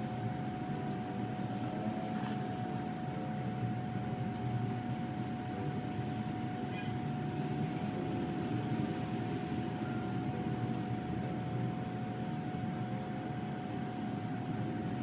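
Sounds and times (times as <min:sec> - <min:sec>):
machine whirring and rumbling: 0:00.0 - 0:15.0.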